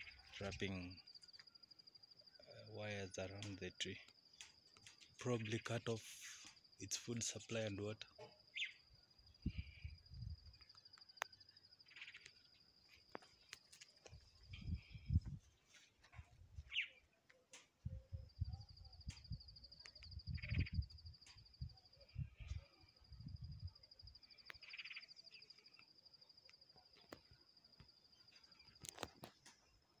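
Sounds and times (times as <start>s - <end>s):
insect trilling: 0.0s - 6.8s, 7.4s - 15.3s, 18.2s - 30.0s.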